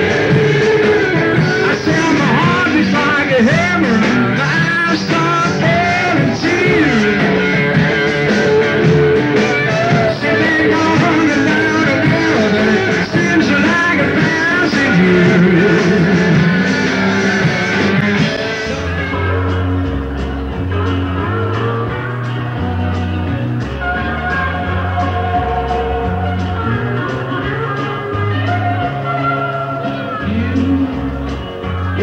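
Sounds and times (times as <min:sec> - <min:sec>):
lead singer: 0:00.0 - 0:32.0
live rock band: 0:00.0 - 0:32.0.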